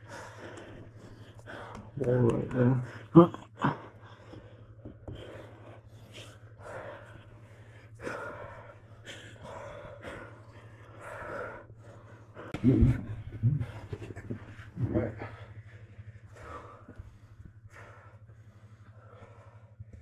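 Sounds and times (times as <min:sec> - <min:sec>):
people breathing hard and gasping: 0:00.0 - 0:20.0
steady low hum: 0:00.0 - 0:20.0.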